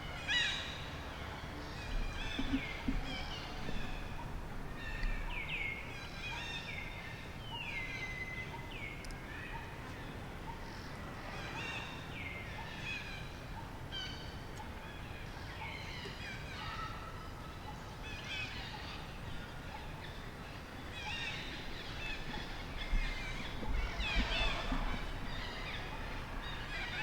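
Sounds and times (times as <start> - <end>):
birds calling: 0.0 - 27.0
steady background hiss: 0.0 - 27.0.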